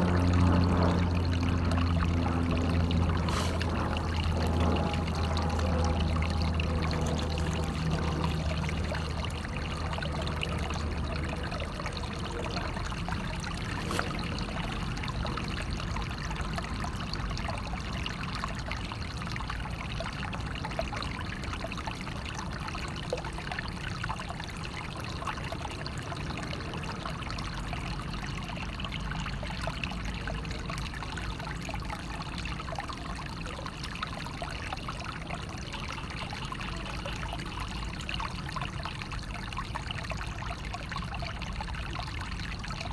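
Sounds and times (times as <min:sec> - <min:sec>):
water running and trickling: 0:00.0 - 0:42.9
water splashes and drips: 0:00.0 - 0:42.9.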